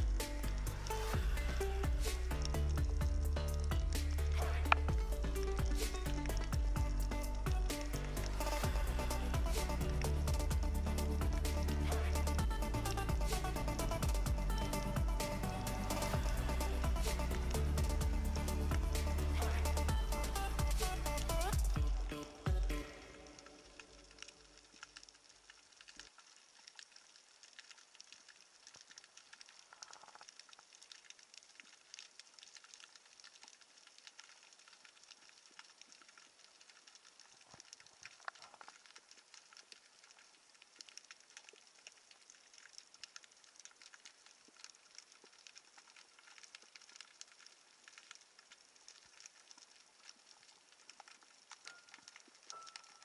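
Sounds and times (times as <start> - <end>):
underwater crackling and snapping: 0.0 - 16.1, 16.8 - 53.0.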